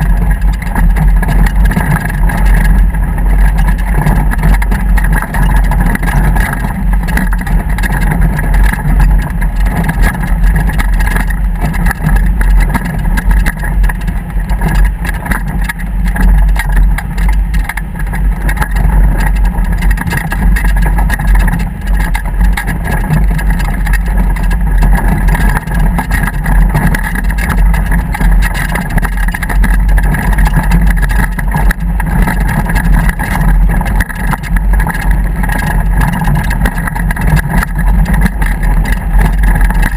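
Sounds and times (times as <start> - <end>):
motorboat engine drone: 0.0 - 39.9
rushing wind: 0.0 - 39.9.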